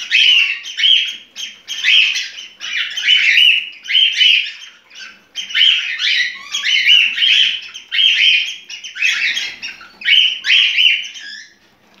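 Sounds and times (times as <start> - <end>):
cockatiel warbling song: 0.0 - 11.6.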